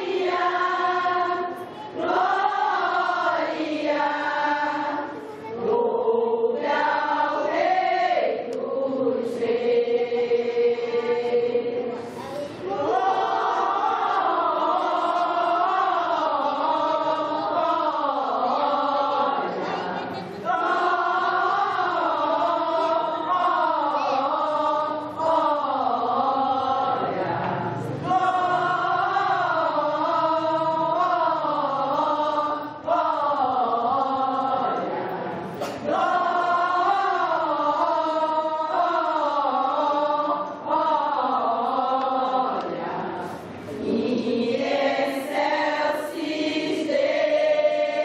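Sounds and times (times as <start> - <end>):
women's choir singing: 0.0 - 48.0.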